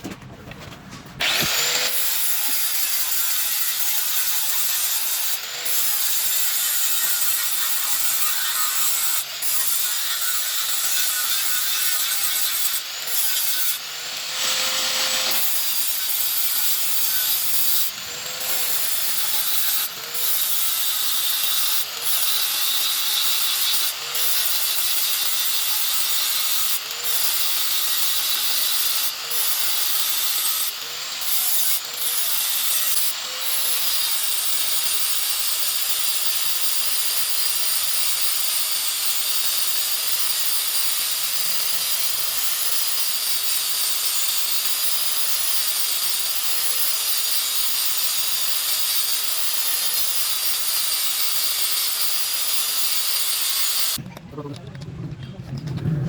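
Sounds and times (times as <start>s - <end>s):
power tool grinding metal: 1.2s - 54.0s.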